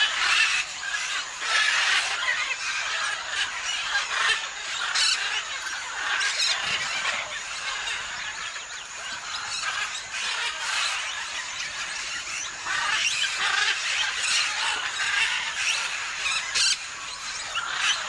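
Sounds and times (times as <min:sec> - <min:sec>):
parrots and macaws calling: 0:00.0 - 0:18.0.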